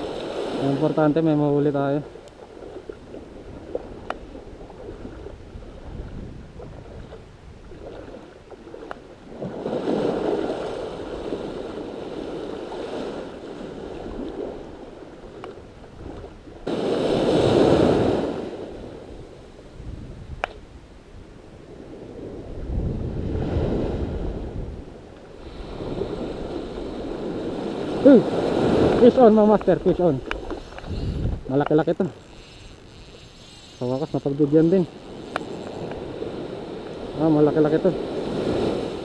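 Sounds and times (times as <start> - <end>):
small waves washing over sand: 0.0 - 19.1, 25.3 - 39.0
wind buffeting microphone: 0.0 - 39.0.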